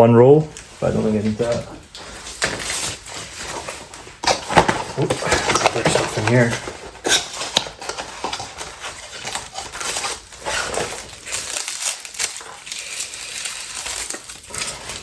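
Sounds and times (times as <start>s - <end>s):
packaging crinkling and rustling: 0.6s - 15.0s.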